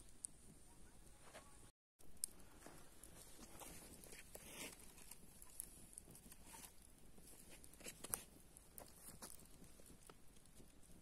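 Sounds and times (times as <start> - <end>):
campfire crackling: 0.0 - 11.0
fire popping: 0.0 - 11.0.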